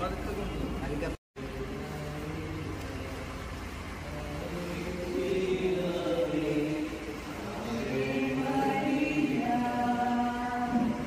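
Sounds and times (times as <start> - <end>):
voices singing devotional chant: 0.4 - 11.0.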